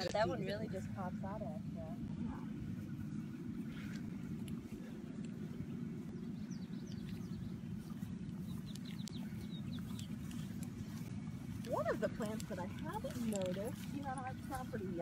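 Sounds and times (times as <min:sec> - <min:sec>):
low rumble: 0:00.0 - 0:15.0
faint birdsong: 0:00.3 - 0:15.0.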